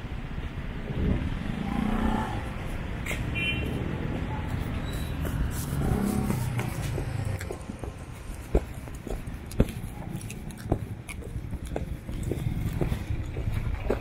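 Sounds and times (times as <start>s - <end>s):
traffic hum: 0.0s - 14.0s
vehicle passing: 0.7s - 14.0s.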